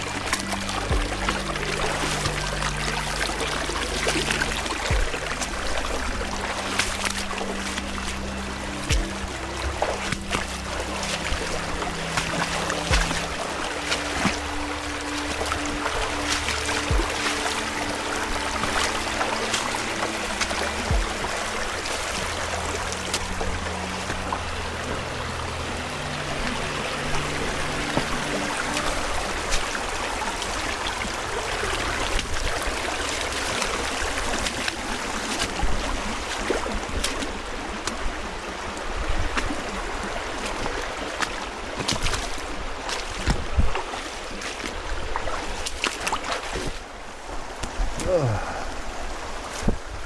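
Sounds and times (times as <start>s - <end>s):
creek water running: 0.0s - 50.0s.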